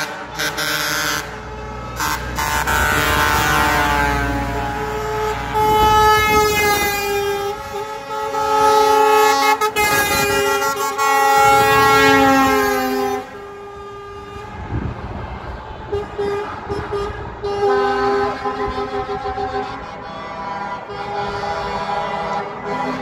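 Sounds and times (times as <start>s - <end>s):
truck air horns: 0.0s - 23.0s.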